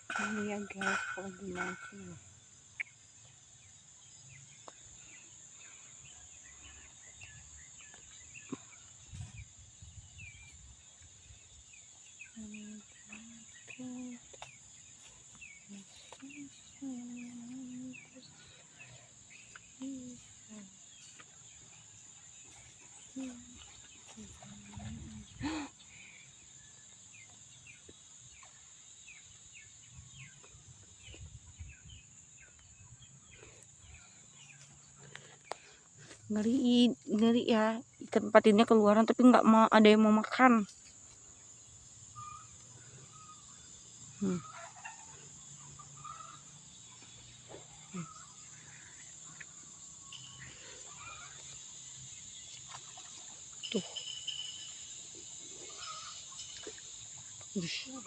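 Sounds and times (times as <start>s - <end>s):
insects droning: 0.0s - 58.0s
faint bird chirps: 0.2s - 40.7s, 41.6s - 55.0s.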